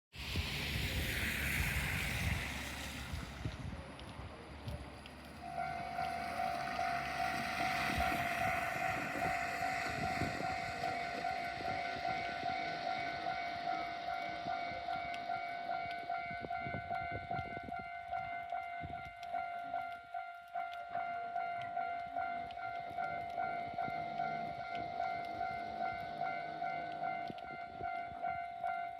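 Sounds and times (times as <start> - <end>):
level-crossing electronic alarm: 5.4 - 28.9.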